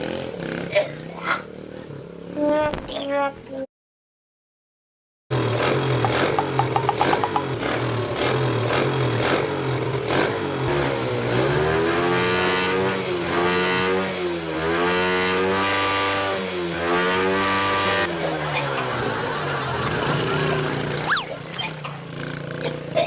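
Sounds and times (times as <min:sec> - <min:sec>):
motorcycle engine revving: 0:00.0 - 0:02.5, 0:05.3 - 0:23.0.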